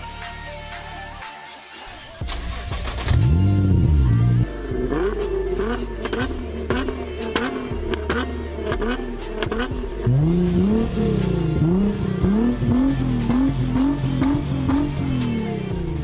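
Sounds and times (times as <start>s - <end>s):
car engine revving: 2.2s - 16.0s.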